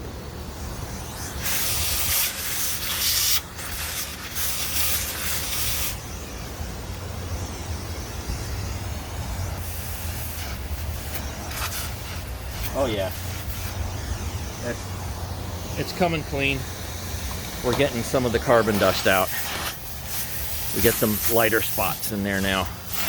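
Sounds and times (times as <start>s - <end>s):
compressed air hissing bursts: 0.3s - 23.0s.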